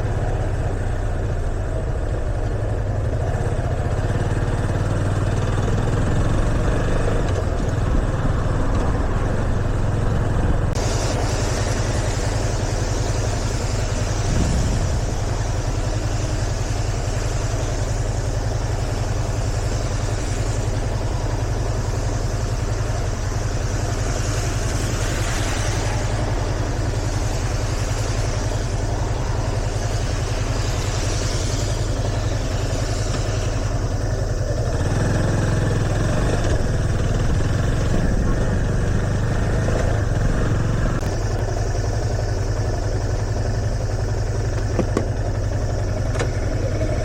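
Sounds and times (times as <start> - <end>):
motorcycle engine running: 0.0 - 47.0
wind and road noise: 0.0 - 47.0.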